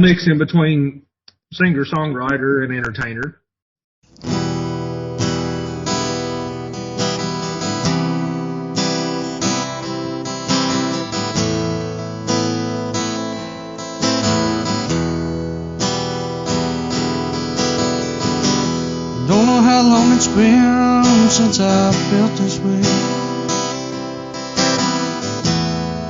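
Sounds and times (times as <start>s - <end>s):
acoustic guitar strumming: 4.1s - 26.0s.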